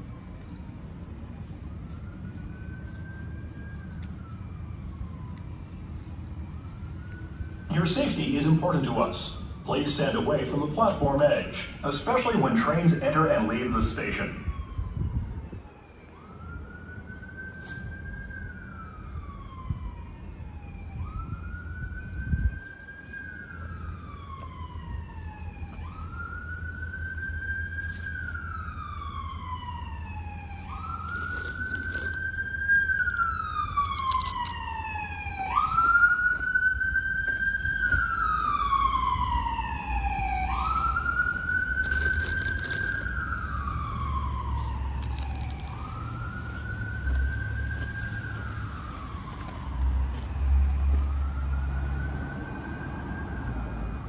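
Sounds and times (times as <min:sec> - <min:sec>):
emergency siren wailing: 0:00.0 - 0:54.0.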